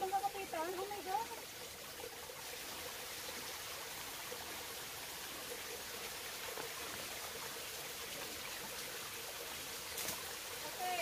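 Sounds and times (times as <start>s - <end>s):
stream trickling over rocks: 0.0s - 11.0s.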